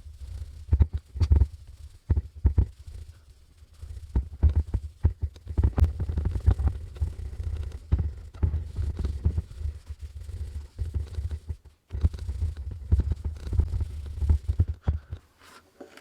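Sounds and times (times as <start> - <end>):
wipe scrubbing plastic lens: 0.0 - 15.6.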